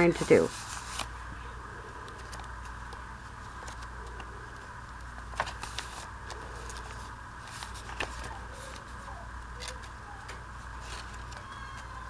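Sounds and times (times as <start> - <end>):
paper pages rustling: 0.0 - 1.2, 2.0 - 12.0
background hum: 0.0 - 12.0.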